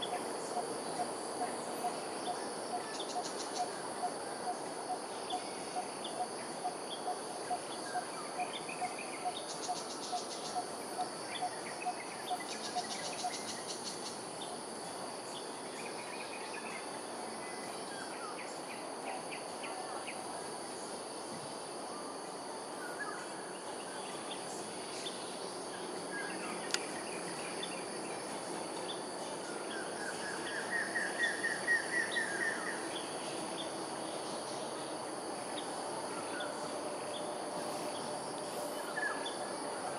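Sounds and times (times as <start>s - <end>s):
high drone of insects: 0.0s - 39.9s.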